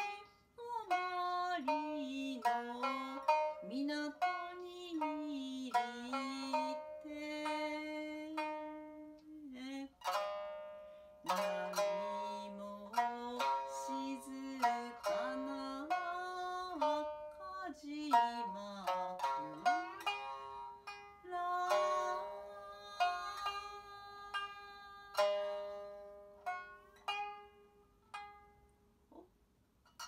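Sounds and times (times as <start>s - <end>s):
woman singing: 0.0s - 10.1s, 11.3s - 20.6s, 21.2s - 26.0s
plucked shamisen notes: 0.0s - 30.0s.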